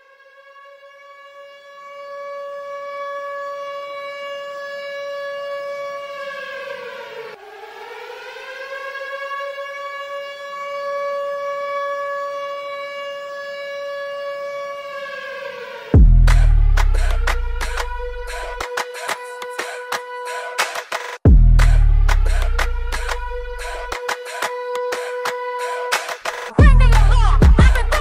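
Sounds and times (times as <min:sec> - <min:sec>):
air-raid siren wailing: 0:00.0 - 0:28.0.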